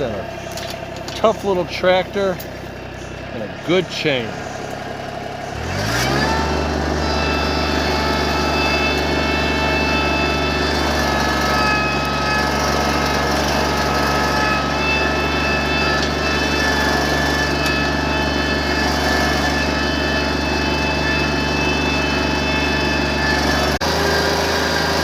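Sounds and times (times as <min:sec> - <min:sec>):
small tractor engine running: 0:00.0 - 0:25.0.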